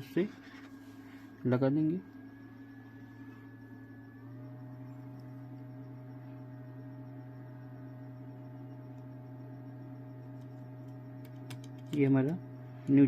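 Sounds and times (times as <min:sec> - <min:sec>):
hot-air station humming: 0:00.0 - 0:13.0.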